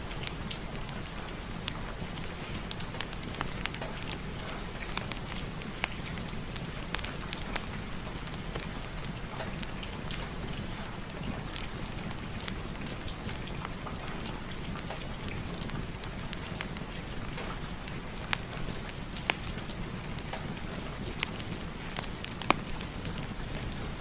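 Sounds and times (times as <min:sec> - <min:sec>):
fireplace fire crackling: 0:00.0 - 0:24.0
steady rain falling: 0:00.0 - 0:24.0.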